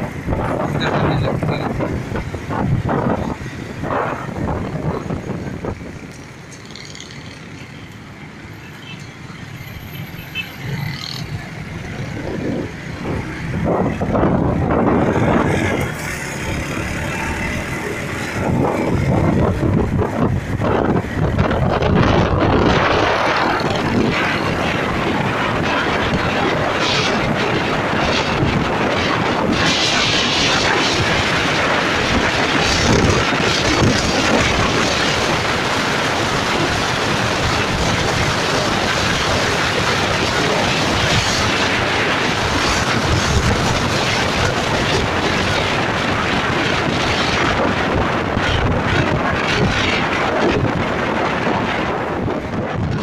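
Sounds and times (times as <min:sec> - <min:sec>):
traffic passing: 0:00.0 - 0:53.0
wind and road noise: 0:00.0 - 0:53.0.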